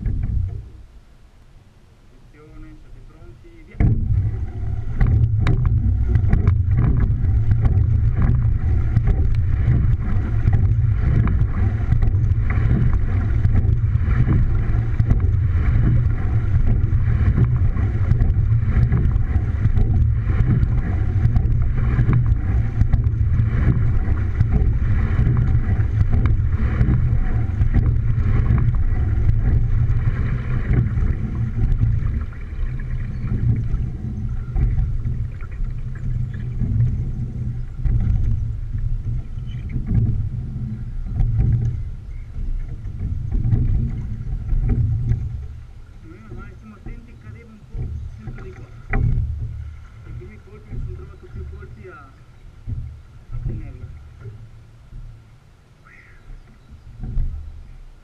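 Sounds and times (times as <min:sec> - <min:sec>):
wind on microphone: 0:00.0 - 0:00.9, 0:03.1 - 0:58.0
oars and rigging knocking: 0:00.0 - 0:58.0
water rumbling along hull: 0:00.0 - 0:58.0.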